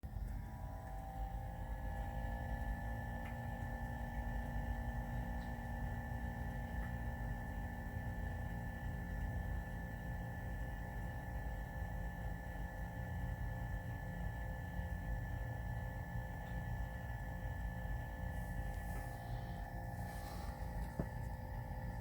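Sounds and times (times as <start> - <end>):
heating boiler humming and whining: 0.0 - 22.0.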